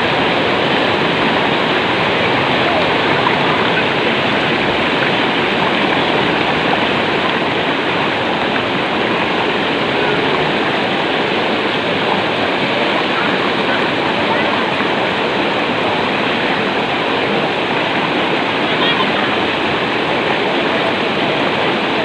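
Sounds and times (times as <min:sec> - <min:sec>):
waterfall and river rushing: 0:00.0 - 0:22.0.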